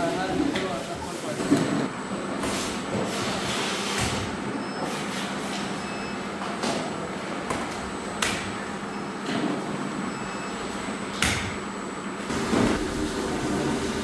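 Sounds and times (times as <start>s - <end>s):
factory machinery humming and whining: 0.0s - 14.0s.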